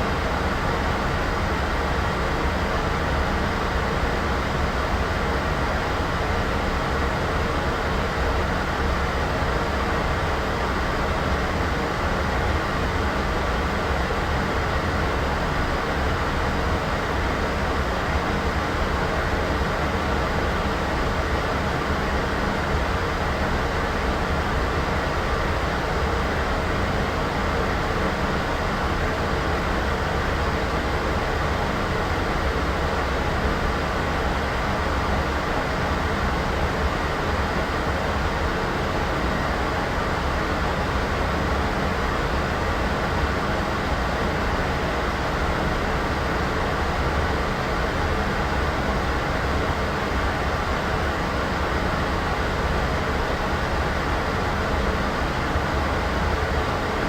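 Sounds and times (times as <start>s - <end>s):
white noise: 0.0s - 57.0s.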